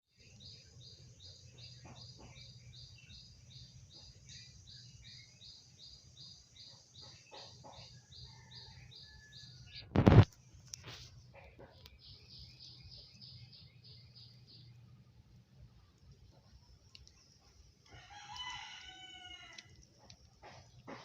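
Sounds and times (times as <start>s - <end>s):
low steady hum: 0.2s - 20.9s.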